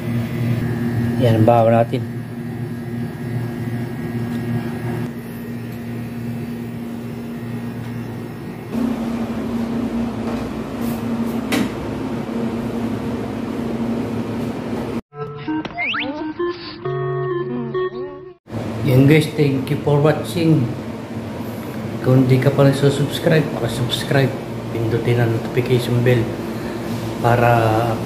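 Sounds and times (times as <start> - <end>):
low machine hum: 0.0 - 15.0, 18.5 - 28.0.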